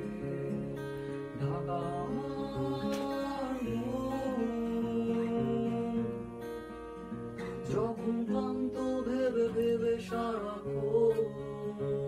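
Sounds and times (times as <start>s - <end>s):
man singing: 0.0s - 6.4s, 7.5s - 12.0s
acoustic guitar chords: 0.0s - 12.0s.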